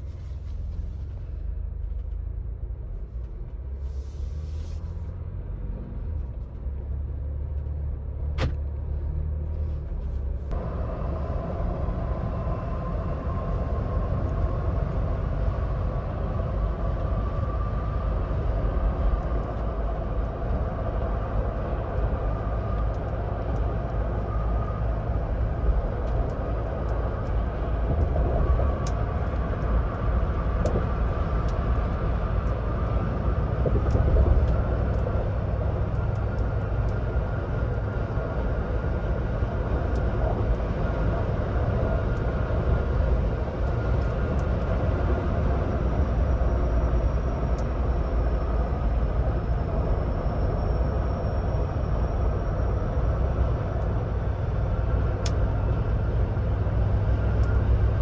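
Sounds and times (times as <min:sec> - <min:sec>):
vehicle road noise at highway speed: 0:00.0 - 0:58.0.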